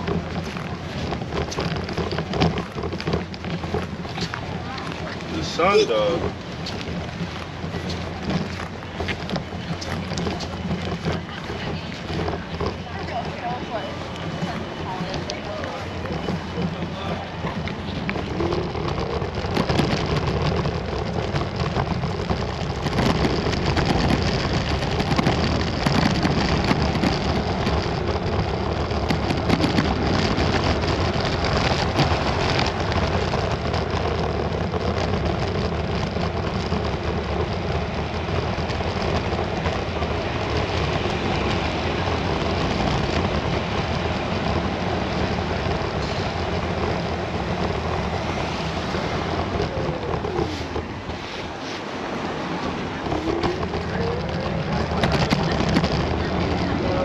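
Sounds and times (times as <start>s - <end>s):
scooter road rumble: 0.0s - 57.0s
wind buffeting microphone: 0.0s - 57.0s.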